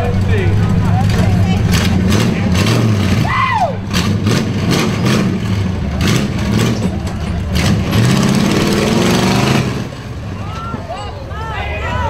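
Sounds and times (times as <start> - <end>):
engine running at low revs: 0.0 - 10.5.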